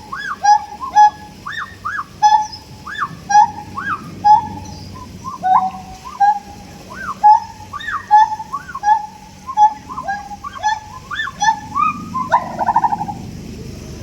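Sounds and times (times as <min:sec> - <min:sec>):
gibbons whooping: 0:00.0 - 0:13.3
gibbons barking: 0:00.0 - 0:13.4.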